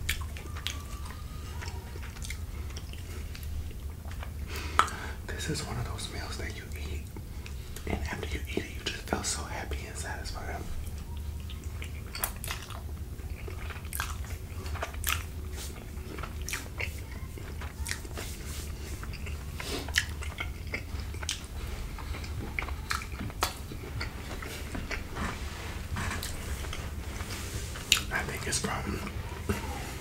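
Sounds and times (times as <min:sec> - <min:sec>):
close chewing with mouth clicks: 0:00.0 - 0:05.2, 0:10.7 - 0:30.0
steady low hum: 0:00.0 - 0:30.0.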